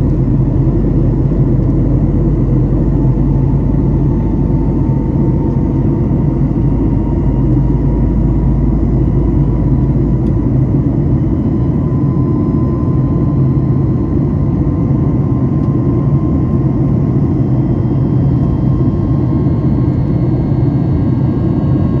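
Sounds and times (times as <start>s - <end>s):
jet engines roaring in cabin: 0.0s - 22.0s.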